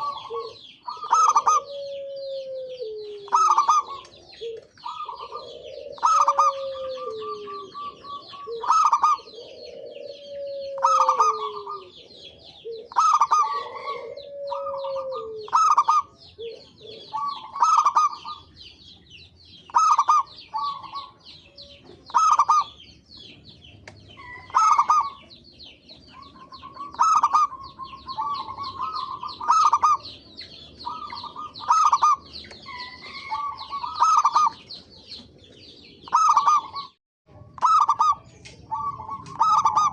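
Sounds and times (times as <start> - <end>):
higher bird chirping: 0.0 - 37.0, 37.6 - 39.9
doves cooing: 0.0 - 39.9.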